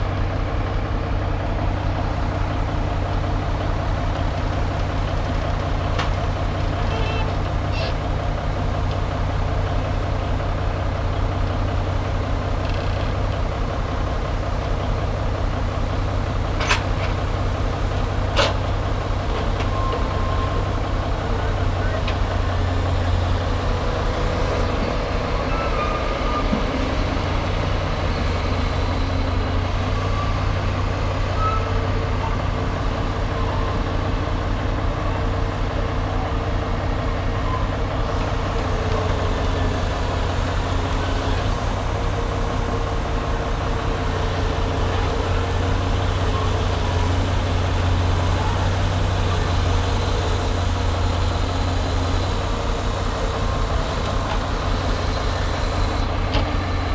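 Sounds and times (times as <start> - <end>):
heavy diesel machinery droning: 0.0 - 56.9.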